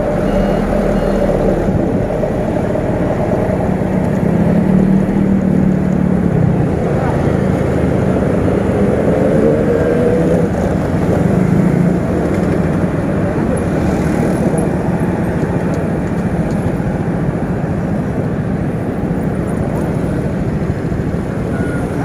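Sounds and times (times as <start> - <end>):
road noise: 0.0 - 22.0
wind rumble on microphone: 0.0 - 22.0.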